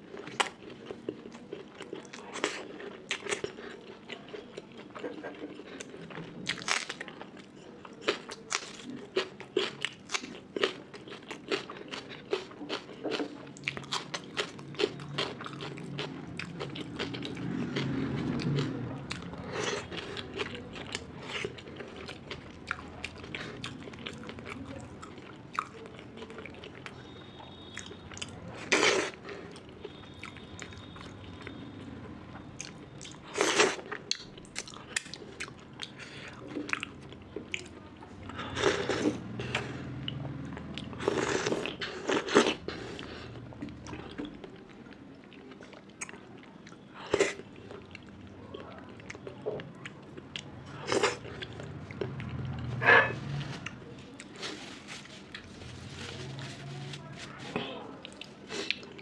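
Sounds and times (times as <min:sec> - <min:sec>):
person chewing: 0:00.1 - 0:31.6, 0:32.3 - 0:59.0.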